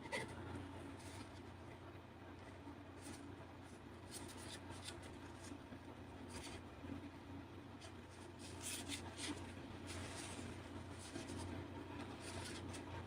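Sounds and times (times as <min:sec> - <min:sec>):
faint scratching and scraping: 0:00.0 - 0:01.6, 0:02.4 - 0:05.6, 0:06.2 - 0:06.7, 0:07.7 - 0:13.0
low steady hum: 0:00.0 - 0:13.0.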